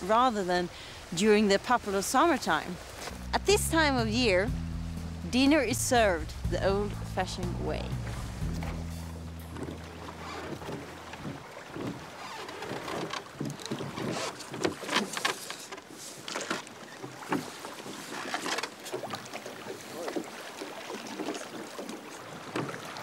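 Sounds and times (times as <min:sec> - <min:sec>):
oars splashing through water: 0:00.0 - 0:23.0.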